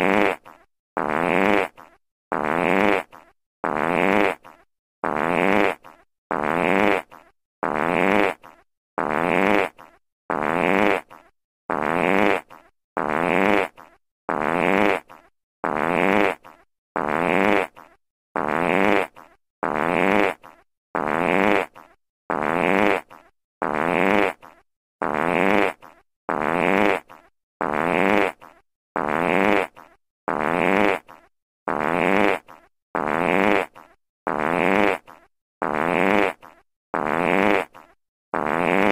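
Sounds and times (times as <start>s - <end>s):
buzzy fart sound effect: 0.0s - 38.9s.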